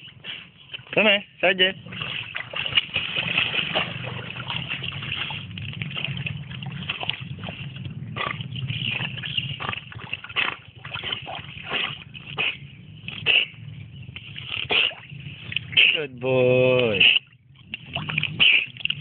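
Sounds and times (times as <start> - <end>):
dog swimming splashes: 0.0 - 16.2, 16.8 - 19.0
steady low hum: 0.0 - 19.0.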